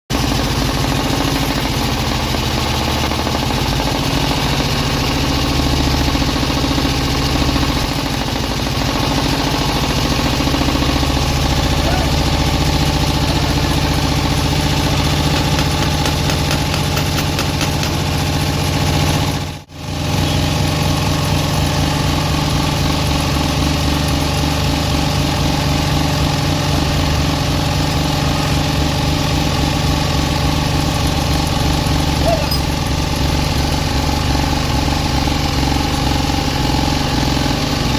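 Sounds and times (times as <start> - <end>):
engine running steadily: 0.1 - 37.9.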